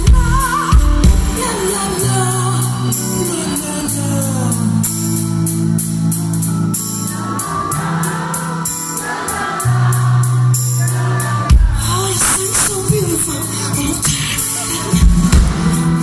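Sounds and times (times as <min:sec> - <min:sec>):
person singing: 0:00.0 - 0:05.2, 0:07.1 - 0:16.0
live soul-blues band: 0:00.0 - 0:16.0.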